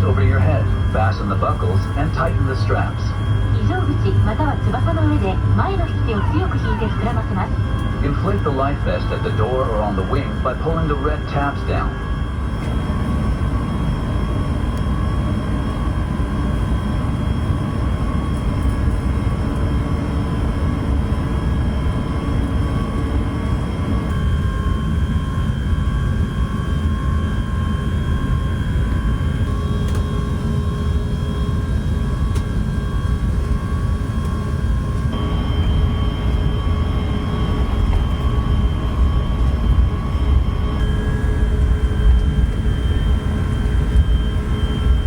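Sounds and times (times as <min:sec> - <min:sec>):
jet engine cabin rumble: 0:00.0 - 0:45.0.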